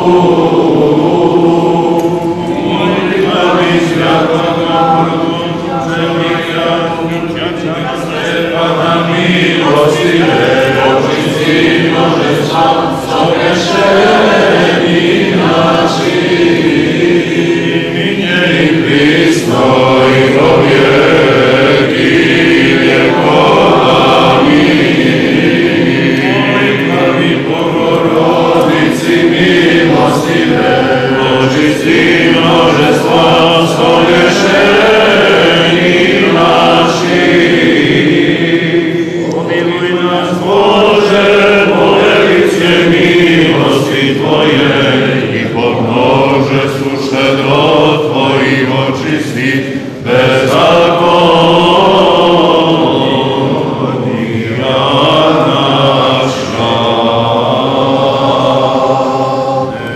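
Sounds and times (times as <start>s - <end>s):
group chanting: 0.0s - 59.9s.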